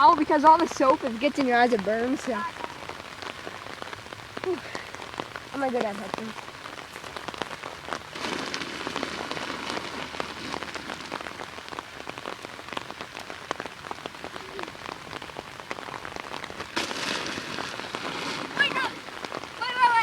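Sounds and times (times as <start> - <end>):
heavy rain pattering: 0.0 - 20.0.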